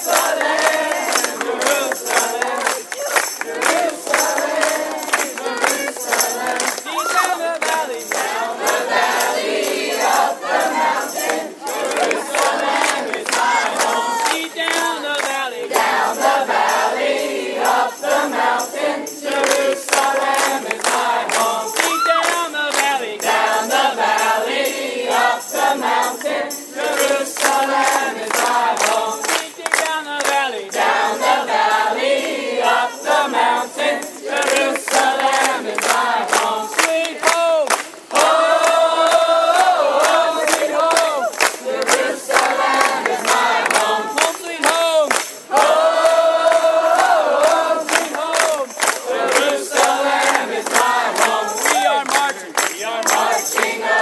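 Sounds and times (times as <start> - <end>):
crowd singing and calling: 0.0 - 54.0
music: 0.0 - 54.0.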